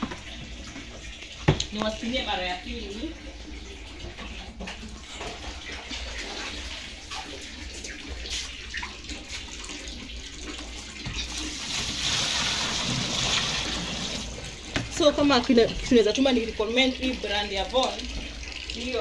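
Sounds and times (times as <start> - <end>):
water rushing in washing machine: 0.0 - 19.0.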